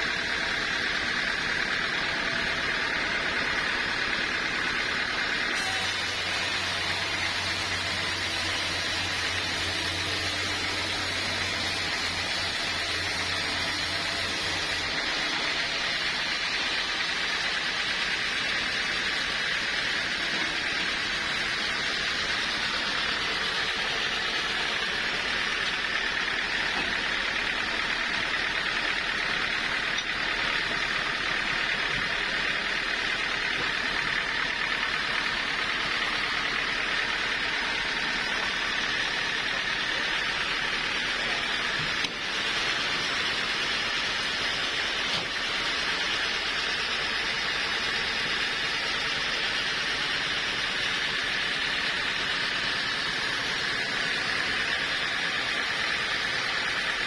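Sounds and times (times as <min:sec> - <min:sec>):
sawmill saw running: 0:00.0 - 0:57.0.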